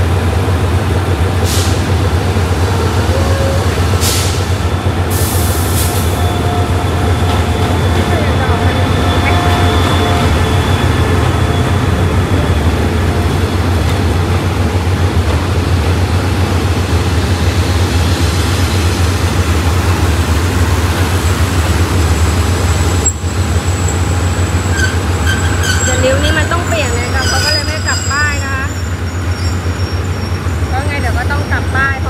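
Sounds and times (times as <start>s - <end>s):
diesel locomotive idling: 0.0s - 32.0s.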